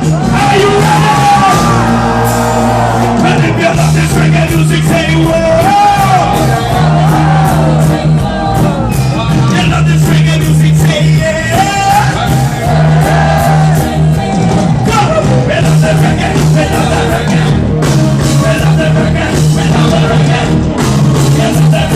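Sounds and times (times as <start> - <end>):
live reggae band: 0.0 - 21.9.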